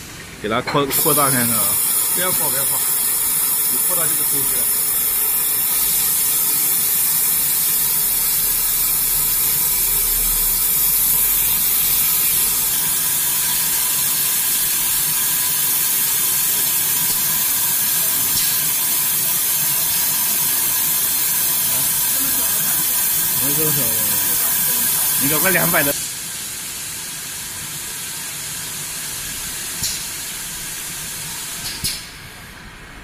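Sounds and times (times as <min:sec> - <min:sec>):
gas burner hissing: 0:00.0 - 0:33.0.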